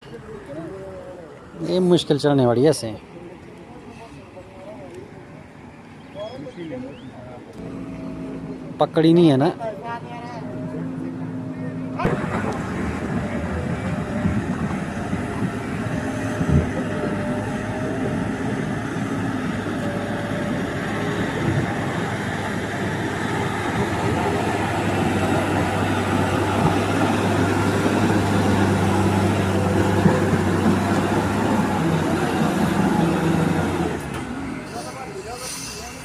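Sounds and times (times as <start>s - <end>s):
bus engine labouring uphill: 0.0s - 36.0s.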